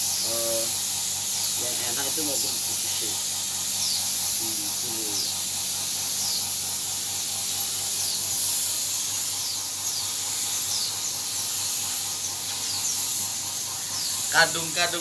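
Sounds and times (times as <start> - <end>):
paint spray gun hissing: 0.0 - 15.0.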